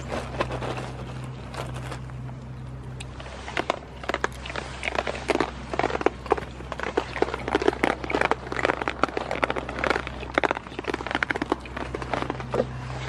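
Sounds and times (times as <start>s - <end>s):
goats crunching and clicking: 0.0s - 13.0s
steady low hum: 0.0s - 13.0s.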